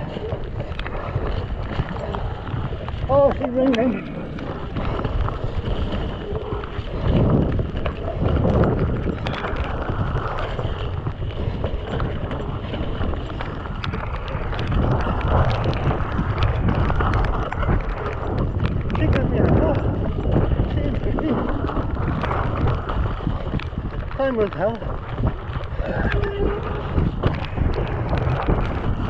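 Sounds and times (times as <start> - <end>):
bike tyres rolling through mud: 0.0 - 29.0
wind buffeting microphone: 0.0 - 29.0.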